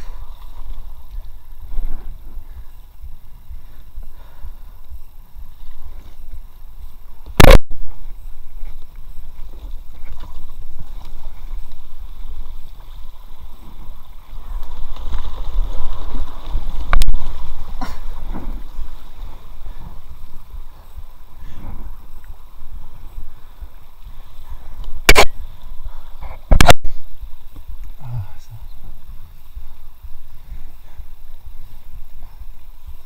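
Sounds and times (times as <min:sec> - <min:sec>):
low rumble on microphone: 0:00.0 - 0:33.0.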